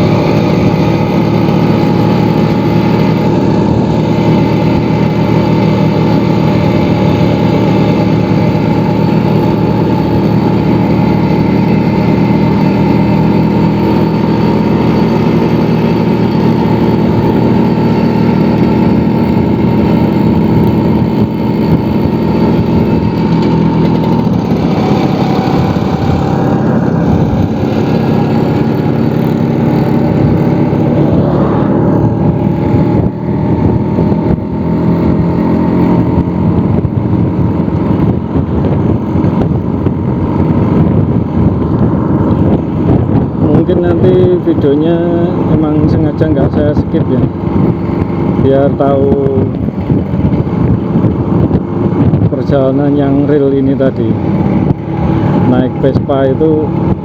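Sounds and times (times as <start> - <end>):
scooter engine running: 0.0 - 57.0.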